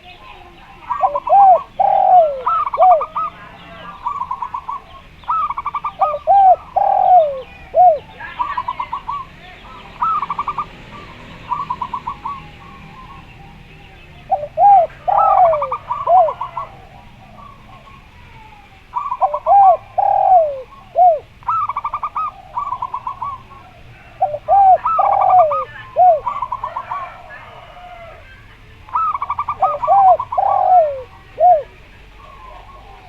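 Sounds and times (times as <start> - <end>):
low swooping dove coos: 0.0 - 33.0.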